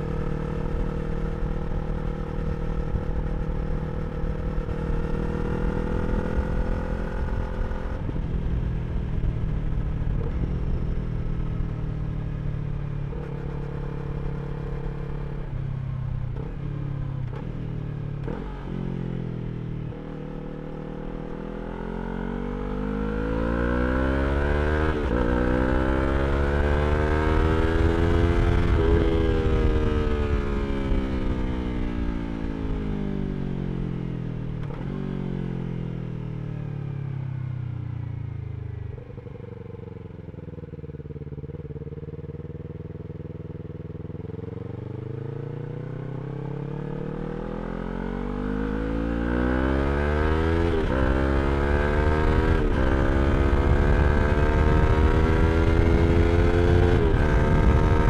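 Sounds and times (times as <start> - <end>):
motorcycle engine revving: 0.0 - 35.8, 38.5 - 58.0.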